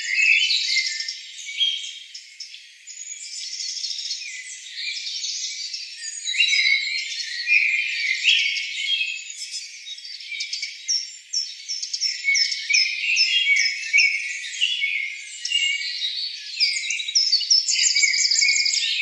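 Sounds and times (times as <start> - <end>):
small birds chirping and twittering: 0.0 - 19.0.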